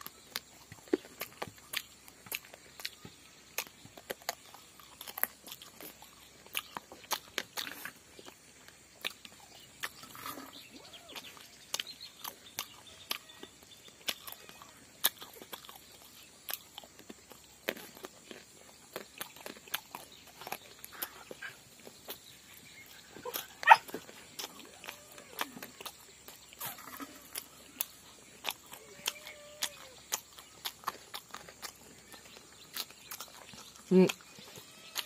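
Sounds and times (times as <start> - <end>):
wet chewing and lip smacking: 0.0 - 35.0.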